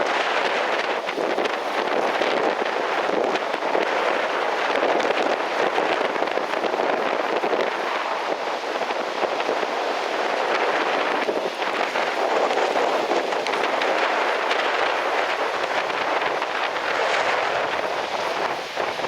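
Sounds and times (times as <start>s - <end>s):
breaking surf: 0.0s - 19.0s
strong wind: 0.0s - 19.0s
wind buffeting microphone: 0.0s - 19.0s.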